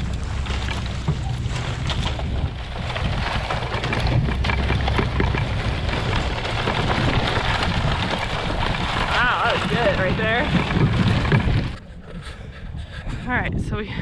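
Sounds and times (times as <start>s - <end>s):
fence drag scraping and rattling: 0.0s - 12.4s
low towing rumble: 0.0s - 14.0s.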